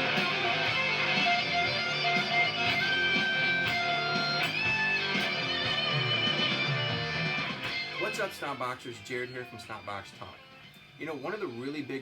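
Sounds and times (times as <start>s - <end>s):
fuzz electric guitar: 0.0s - 12.0s.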